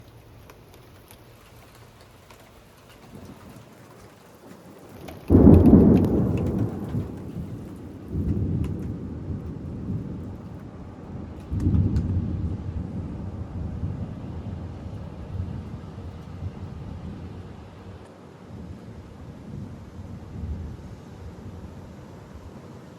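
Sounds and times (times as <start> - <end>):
rolling thunder: 2.9 - 22.6.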